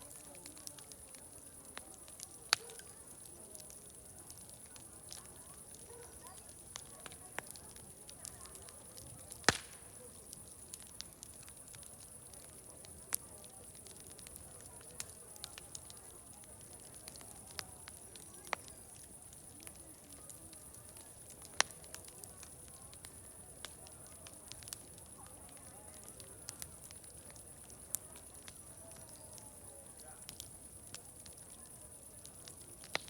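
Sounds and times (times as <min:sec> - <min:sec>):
distant crowd chatter: 0:00.0 - 0:33.0
wood fire crackling: 0:00.0 - 0:33.0.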